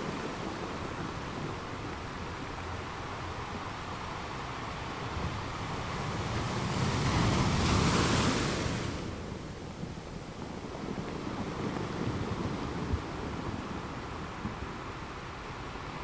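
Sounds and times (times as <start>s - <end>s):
ocean surf waves: 0.0s - 16.0s.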